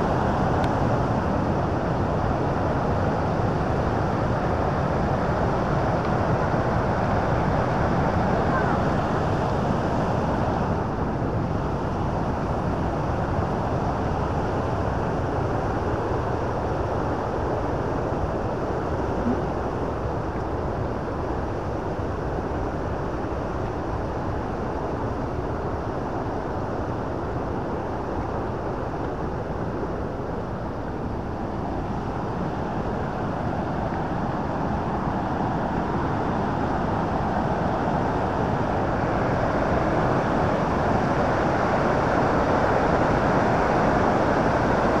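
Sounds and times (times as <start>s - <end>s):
fast river water rushing: 0.0s - 45.0s.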